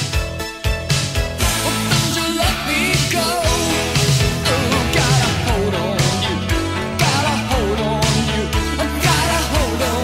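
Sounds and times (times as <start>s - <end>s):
rock guitars: 0.0s - 10.0s
steady drum beat: 0.0s - 10.0s
person singing: 1.4s - 10.0s.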